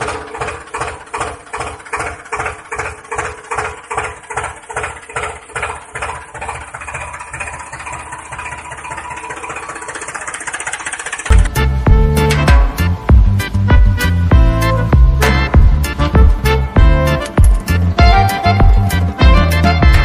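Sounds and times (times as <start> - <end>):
tractor engine chugging: 0.0 - 20.0.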